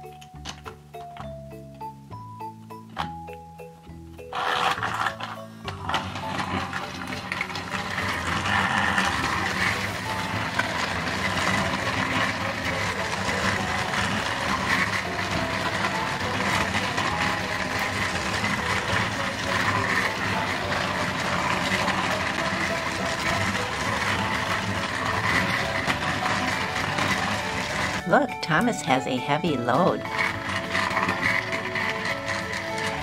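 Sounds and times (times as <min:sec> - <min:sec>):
toy train motor whir: 0:04.2 - 0:33.0
wheels rattling on plastic track: 0:04.3 - 0:33.0.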